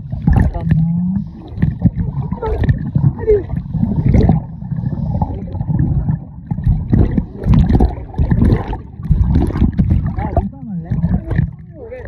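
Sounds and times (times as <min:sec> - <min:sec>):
underwater churn and gurgling: 0:00.0 - 0:12.0
water splashing: 0:00.0 - 0:12.0.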